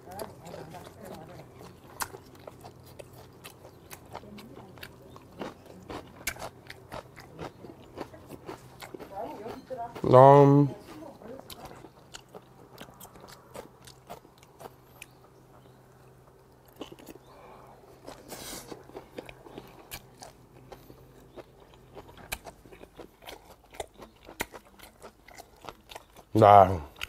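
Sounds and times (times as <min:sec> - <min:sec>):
chewing and biting: 0:00.0 - 0:10.1, 0:10.8 - 0:27.0.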